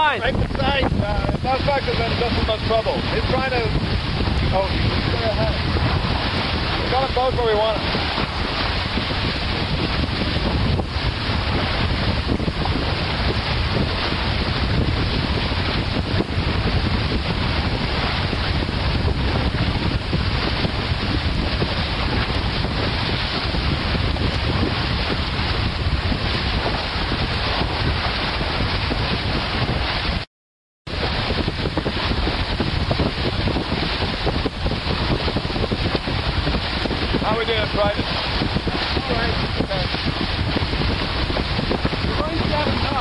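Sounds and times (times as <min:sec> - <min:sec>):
rushing water and spray: 0:00.0 - 0:30.3, 0:30.9 - 0:43.0
wind buffeting microphone: 0:00.0 - 0:30.3, 0:30.9 - 0:43.0.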